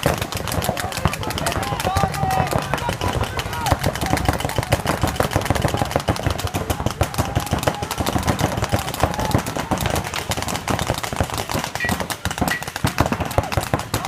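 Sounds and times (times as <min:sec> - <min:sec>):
paintball markers firing: 0:00.0 - 0:14.0.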